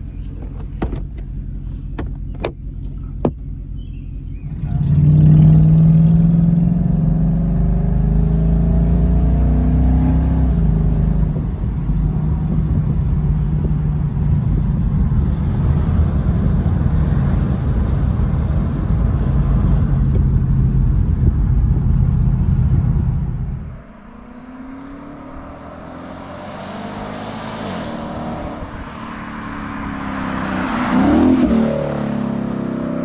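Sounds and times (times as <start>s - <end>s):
car engine accelerating: 0.0s - 33.0s
road noise: 0.0s - 33.0s.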